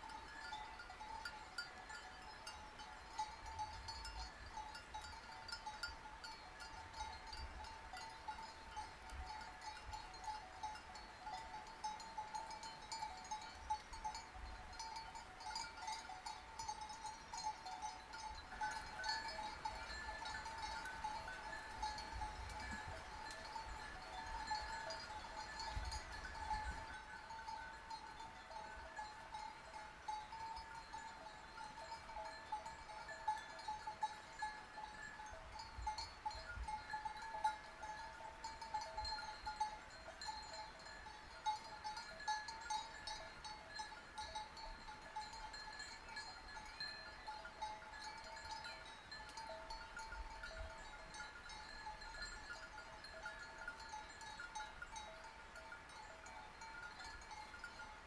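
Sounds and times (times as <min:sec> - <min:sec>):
sheep bells clanking: 0:00.0 - 0:58.0.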